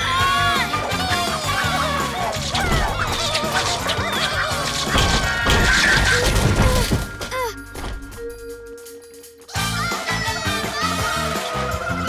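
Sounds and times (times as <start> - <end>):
cartoon action music: 0.0 - 12.0.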